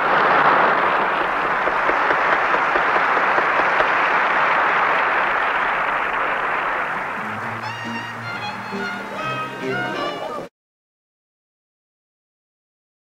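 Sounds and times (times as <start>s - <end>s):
audience clapping: 0.0s - 10.4s.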